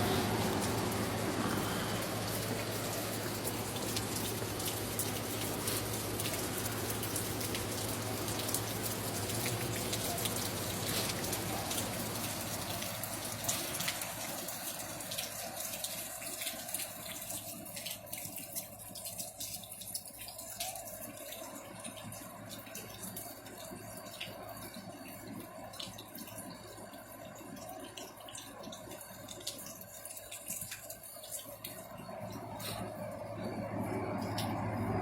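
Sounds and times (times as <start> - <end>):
rain patter: 0.0 - 35.0
running water: 0.0 - 35.0.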